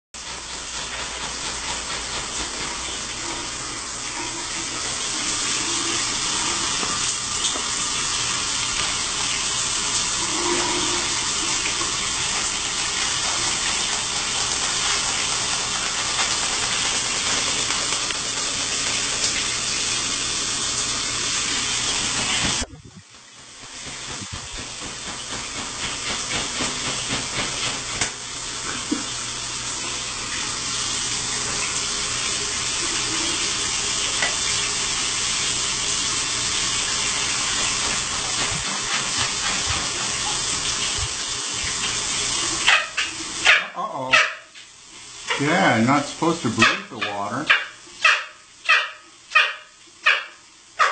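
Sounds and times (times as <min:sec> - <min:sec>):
shower spray hissing: 0:00.2 - 0:50.9.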